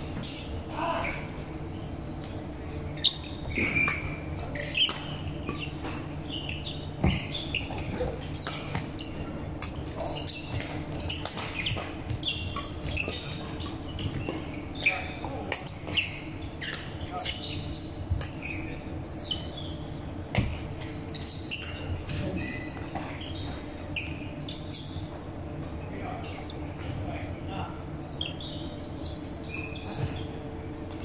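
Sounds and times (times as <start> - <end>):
shoes squeaking on floor: 0.0 - 27.2, 28.1 - 31.0
steady low hum: 0.0 - 31.0.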